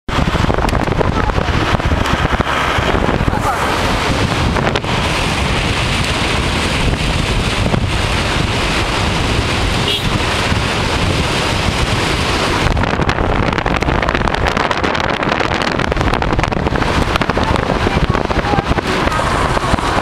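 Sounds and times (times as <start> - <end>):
wind buffeting microphone: 0.1 - 20.0.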